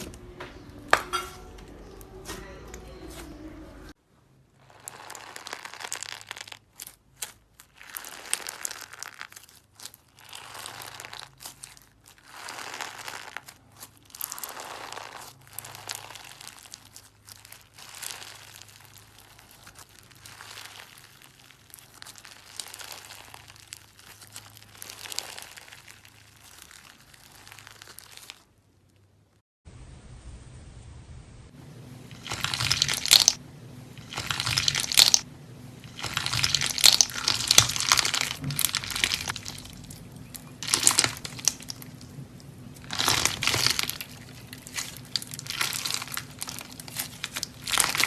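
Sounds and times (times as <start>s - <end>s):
slime squished by hand: 4.6s - 29.1s, 32.1s - 33.4s, 34.0s - 35.3s, 35.9s - 48.0s.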